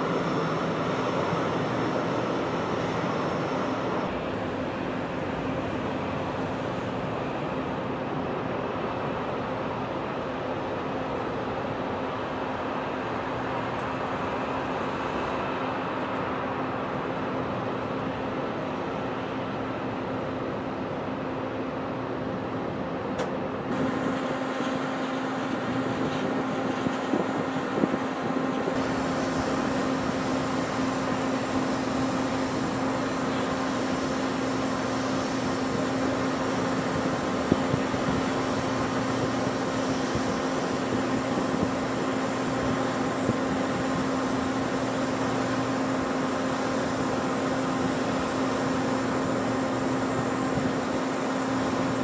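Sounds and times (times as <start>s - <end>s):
jet engine rushing at takeoff: 0.0s - 52.0s.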